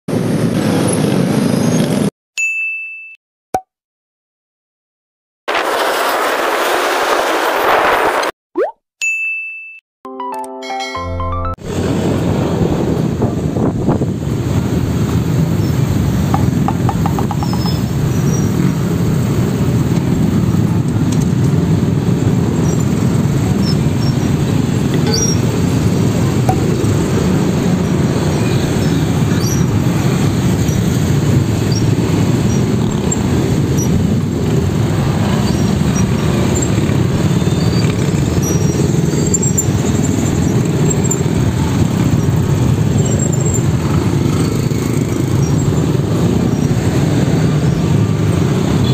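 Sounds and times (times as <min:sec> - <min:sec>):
motorcycle and car engines running: 0:00.1 - 0:02.1, 0:11.6 - 0:48.9
road traffic rumble: 0:00.1 - 0:02.1, 0:11.6 - 0:48.9.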